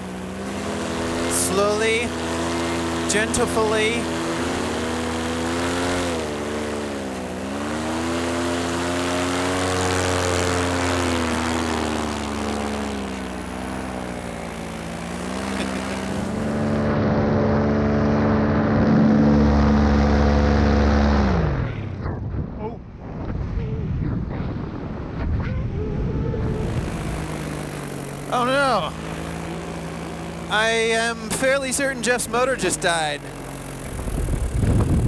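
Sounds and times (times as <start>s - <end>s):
paramotor engine and propeller: 0.0s - 35.0s.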